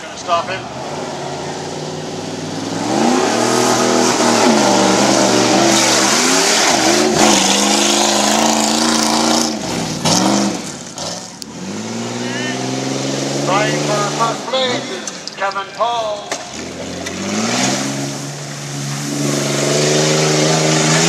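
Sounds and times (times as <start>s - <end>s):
suv engine revving hard: 0.0s - 15.0s, 16.5s - 21.0s
truck tearing across dirt: 0.0s - 15.2s, 16.4s - 21.0s.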